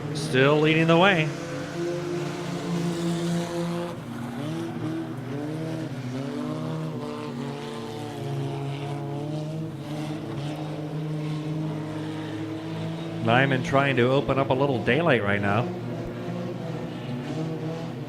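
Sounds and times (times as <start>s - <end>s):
race car engines at speed: 0.0s - 18.0s.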